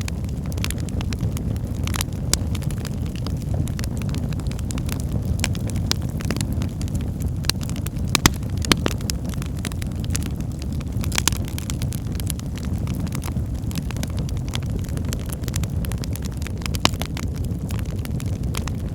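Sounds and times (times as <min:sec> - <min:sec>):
burning logs crackling and popping: 0:00.0 - 0:18.9
fire rumbling: 0:00.0 - 0:18.9.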